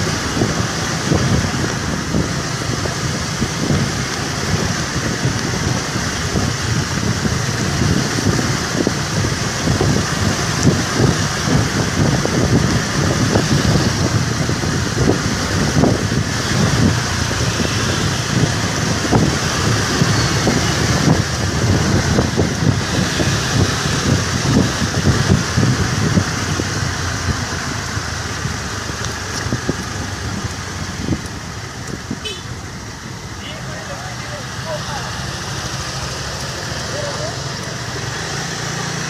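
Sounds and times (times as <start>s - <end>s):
wind buffeting microphone: 0.0s - 33.3s.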